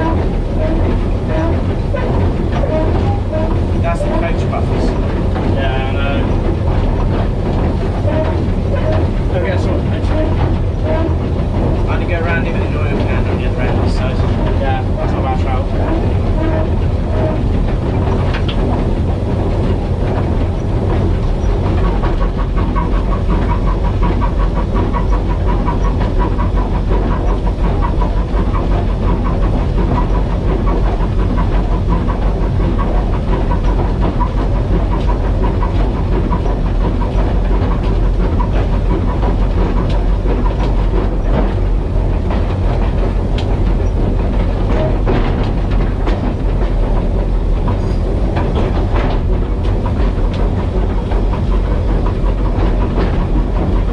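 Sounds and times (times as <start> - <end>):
steam locomotive rumbling on track: 0.0 - 53.9.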